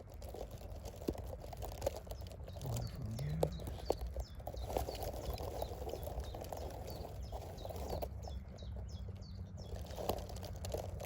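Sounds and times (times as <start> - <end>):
small birds chirping: 0.0 - 11.0
twigs and leaves rustling: 0.0 - 11.0.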